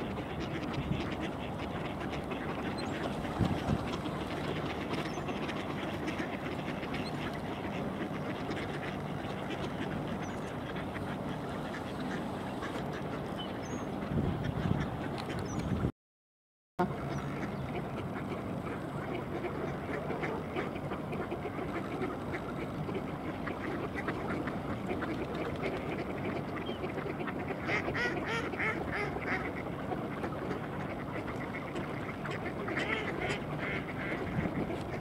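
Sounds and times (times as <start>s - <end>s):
ducks quacking: 0.0s - 15.9s, 16.8s - 35.0s.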